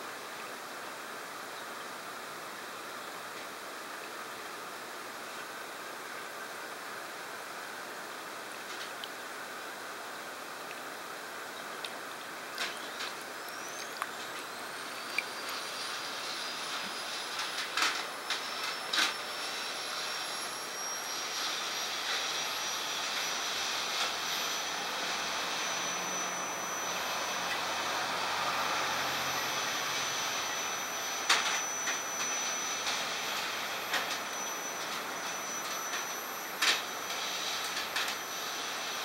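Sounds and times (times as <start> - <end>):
thin high whine: 0.0 - 39.0
steady hissing: 6.2 - 39.0.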